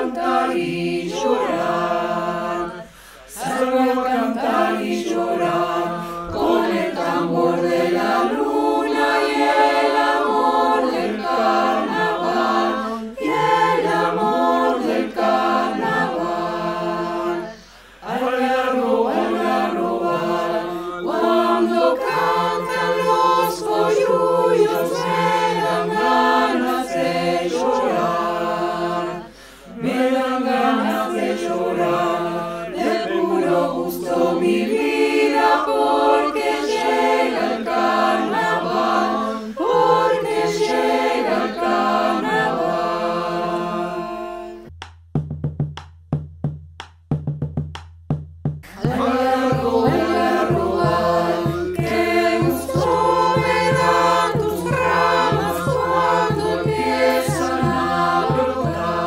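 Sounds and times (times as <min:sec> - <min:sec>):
choir singing a cappella: 0:00.0 - 0:44.7, 0:48.6 - 0:59.0.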